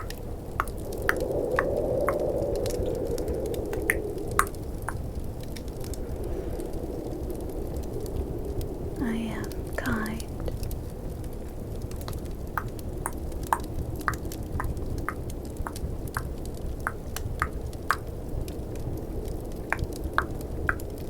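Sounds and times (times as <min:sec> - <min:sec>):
fireplace crackling: 0:00.0 - 0:21.0
snowstorm wind: 0:00.0 - 0:21.0.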